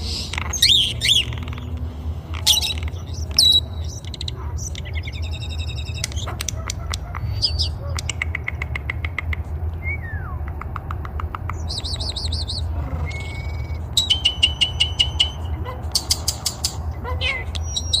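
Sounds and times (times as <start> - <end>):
songbird singing: 0.0 - 18.0
steady low hum: 0.0 - 18.0.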